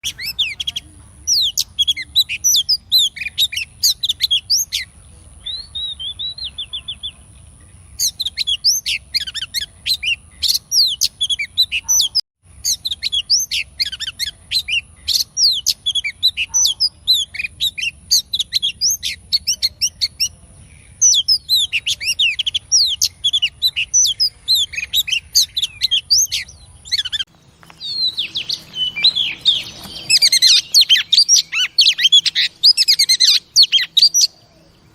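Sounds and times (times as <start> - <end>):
bird chirping and whistling: 0.0 - 7.2, 8.0 - 20.3, 21.0 - 34.5.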